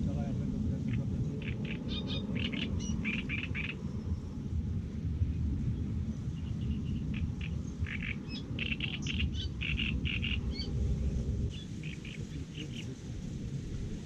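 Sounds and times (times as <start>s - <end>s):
wind rumble on microphone: 0.0s - 14.0s
small birds chirping: 0.8s - 4.4s, 5.3s - 13.6s.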